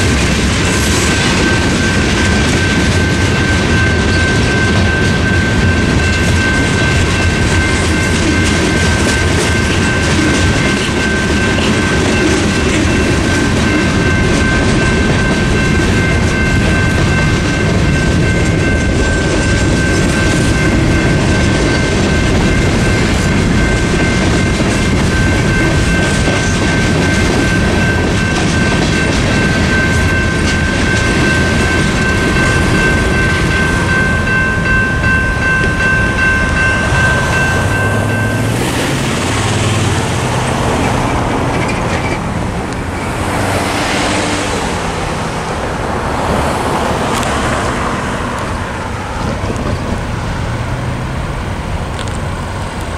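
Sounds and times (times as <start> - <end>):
crossing bell ringing: 0.0 - 52.9
freight train rolling: 0.0 - 52.9.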